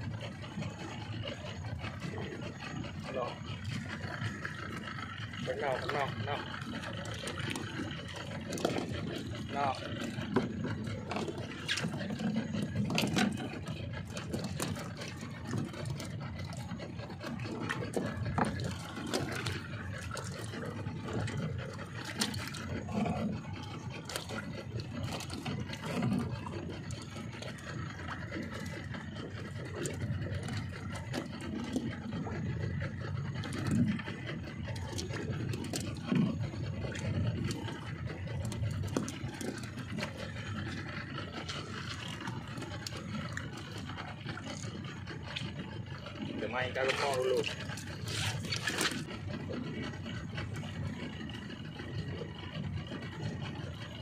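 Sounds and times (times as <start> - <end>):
water noise: 0.0 - 54.0
wind: 0.0 - 54.0.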